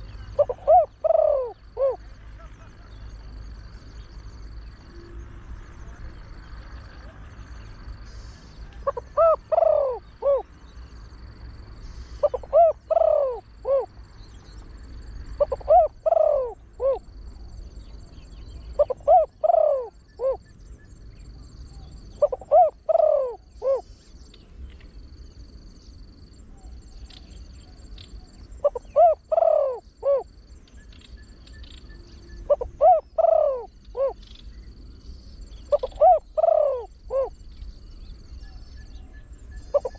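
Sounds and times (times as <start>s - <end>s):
dove cooing: 0.0s - 10.7s, 12.0s - 14.3s, 15.0s - 20.6s, 21.2s - 23.9s, 26.5s - 34.4s, 35.5s - 39.9s.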